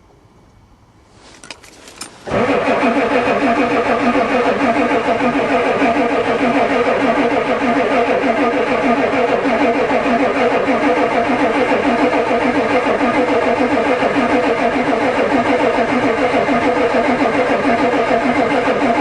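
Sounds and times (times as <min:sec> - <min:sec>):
diesel engine cranking: 0:01.2 - 0:19.0.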